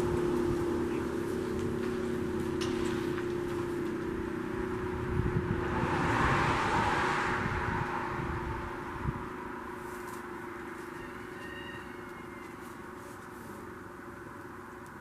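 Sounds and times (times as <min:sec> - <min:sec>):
vehicle passing by: 0:00.0 - 0:14.2
steady low hum: 0:00.0 - 0:15.0.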